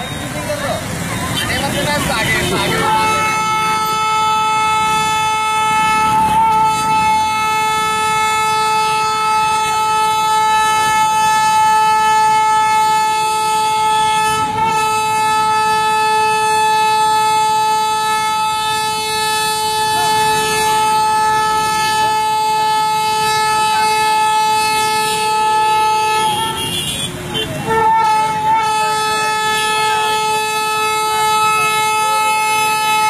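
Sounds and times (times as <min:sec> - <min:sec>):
train horn blast: 0:02.4 - 0:33.0.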